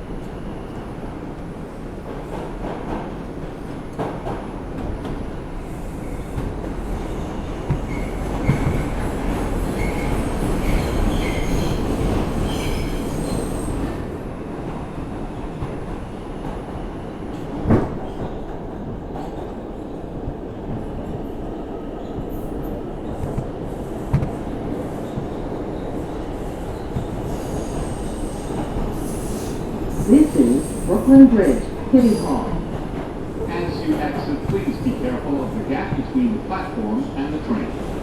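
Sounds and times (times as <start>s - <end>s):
wheels rumbling on rail: 0.0s - 38.0s.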